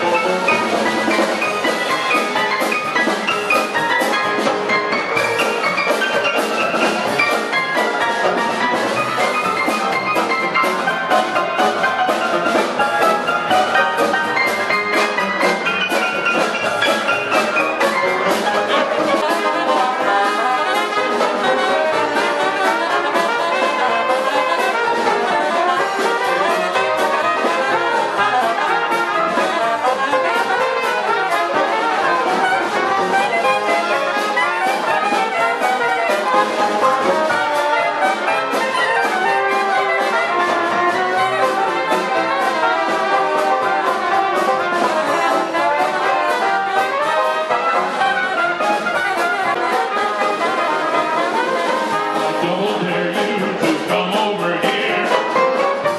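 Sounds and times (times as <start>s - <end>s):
dixieland jazz band playing: 0.0s - 55.9s.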